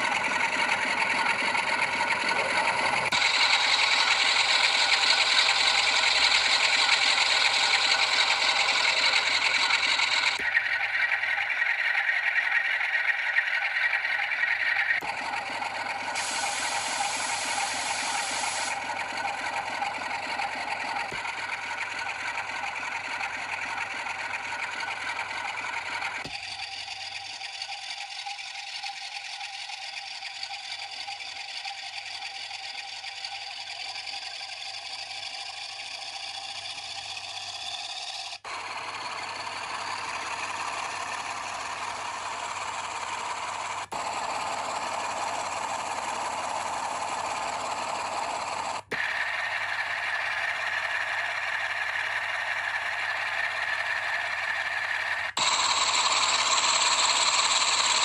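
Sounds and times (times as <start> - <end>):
diesel locomotive engine through small speakers: 0.0 - 58.0.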